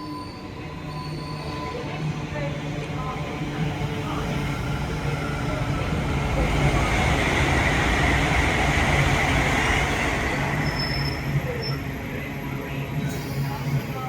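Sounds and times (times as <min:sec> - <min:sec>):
train rumble and rail noise: 0:00.0 - 0:14.0.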